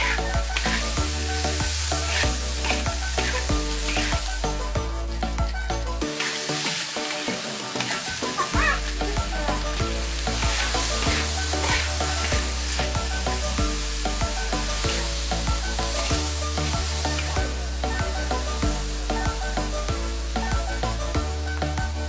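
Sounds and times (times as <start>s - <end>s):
background music with bass line: 0.0s - 22.0s
food sizzling in a pan: 0.0s - 22.0s.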